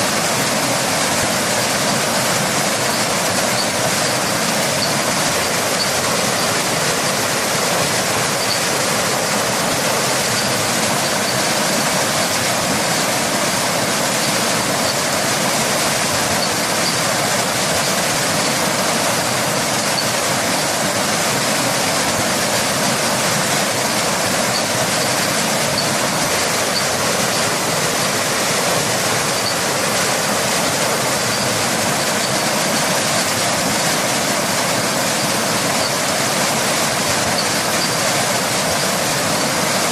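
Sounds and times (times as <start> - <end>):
waterfall and rain rushing: 0.0 - 39.9.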